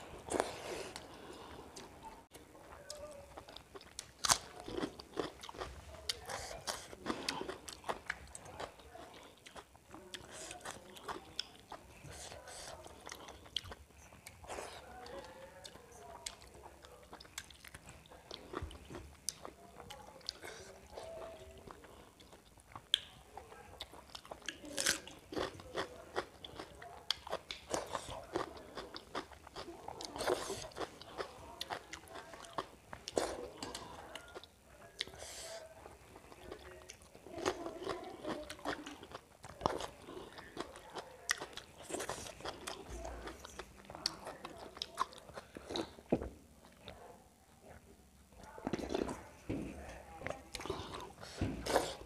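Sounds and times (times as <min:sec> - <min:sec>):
person chewing and eating: 0:00.0 - 0:52.0.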